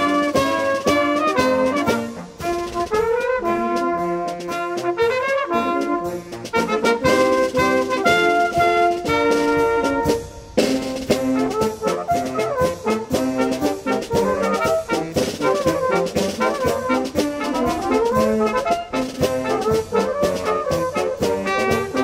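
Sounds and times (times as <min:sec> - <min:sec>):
brass and saxophone band playing: 0:00.0 - 0:22.0
drum beats: 0:00.0 - 0:22.0.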